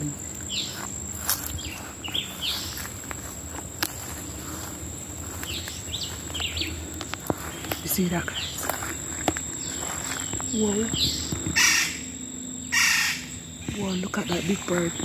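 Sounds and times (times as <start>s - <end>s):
birds chirping: 0.0s - 15.0s
steady high-pitched buzz: 0.0s - 15.0s.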